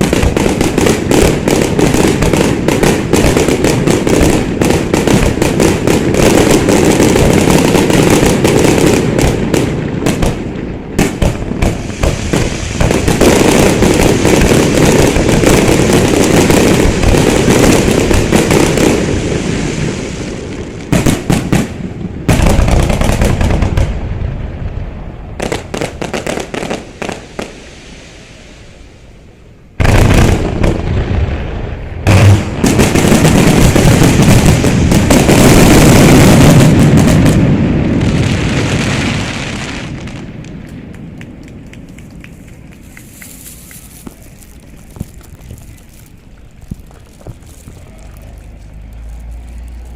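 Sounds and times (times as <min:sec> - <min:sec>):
firework booms and crackling: 0:00.0 - 0:49.9.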